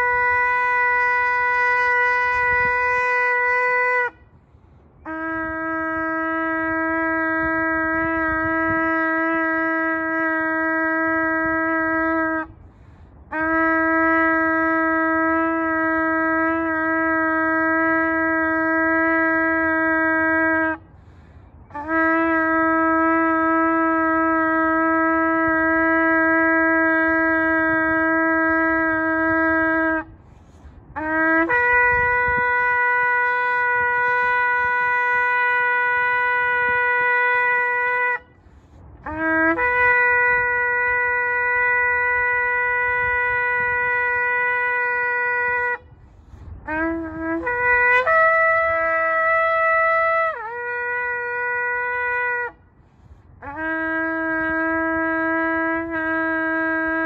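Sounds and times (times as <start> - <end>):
shofar blasts: 0.0 - 4.4, 5.0 - 12.6, 13.3 - 20.9, 21.6 - 57.0.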